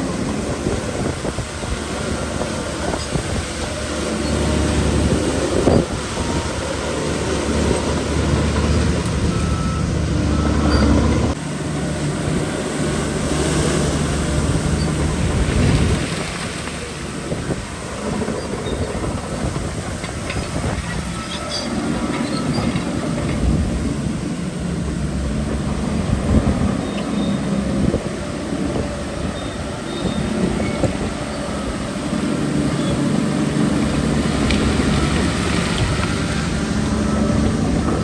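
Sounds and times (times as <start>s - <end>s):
heavy diesel engine rumbling: 0.0s - 38.0s.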